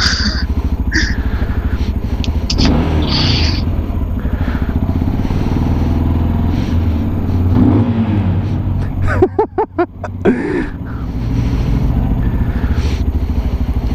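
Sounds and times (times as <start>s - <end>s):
motorcycle engine puttering: 0.0s - 13.9s.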